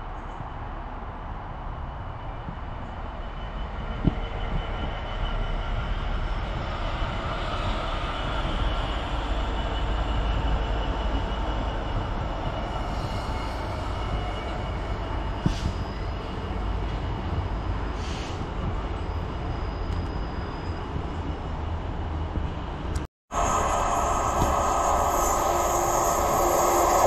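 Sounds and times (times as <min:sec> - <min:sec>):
diesel locomotive rumble: 0:00.0 - 0:27.0.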